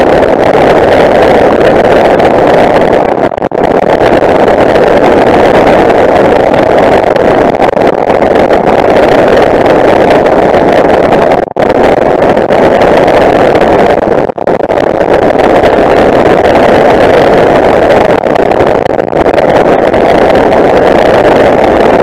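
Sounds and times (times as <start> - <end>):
rushing air: 0.0 - 22.0.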